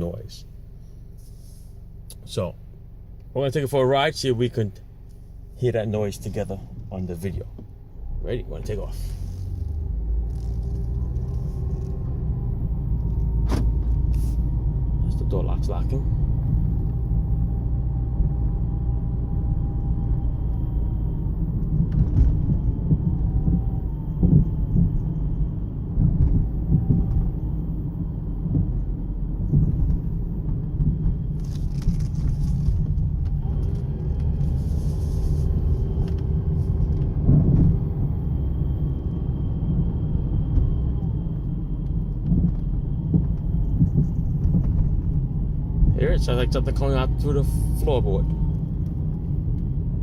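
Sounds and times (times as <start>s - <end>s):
car road rumble: 0.0s - 50.0s.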